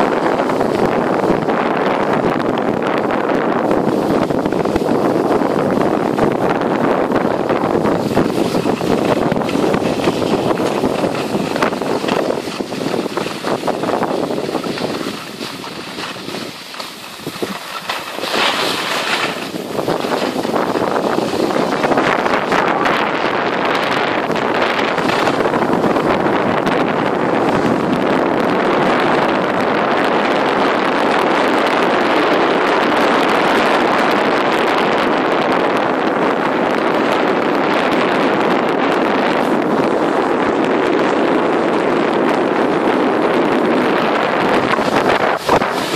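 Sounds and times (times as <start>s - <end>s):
skis scraping over snow: 0.0s - 45.9s
wind over microphone: 0.0s - 45.9s.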